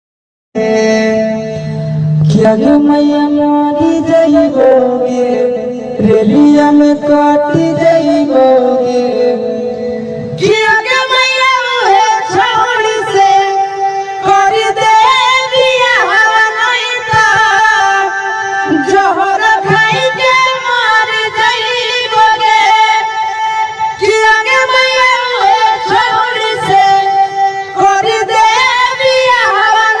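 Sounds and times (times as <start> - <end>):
person singing ornamented melody: 0.6 - 30.0.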